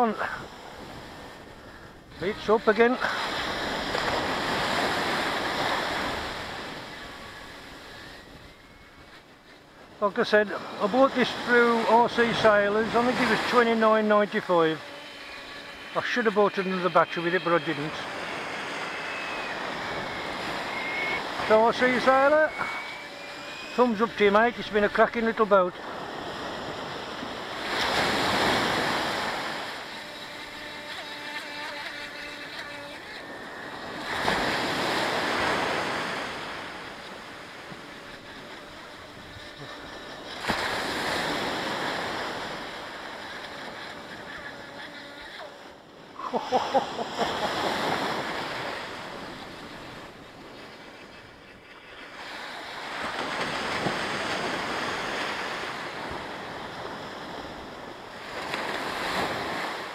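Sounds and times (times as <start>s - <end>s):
small sea waves breaking on sand: 0.0s - 29.9s, 33.3s - 44.2s, 51.6s - 59.9s.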